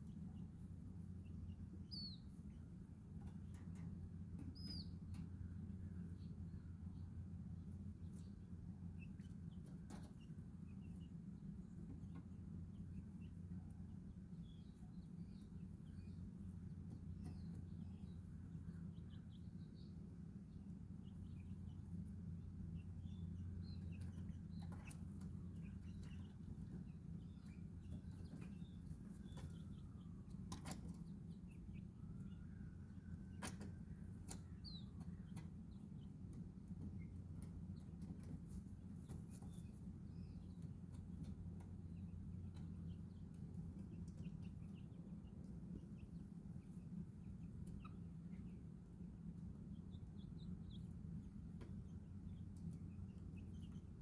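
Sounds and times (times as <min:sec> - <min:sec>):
baby chicks peeping: 0:00.0 - 0:54.0
steady low hum: 0:00.0 - 0:54.0.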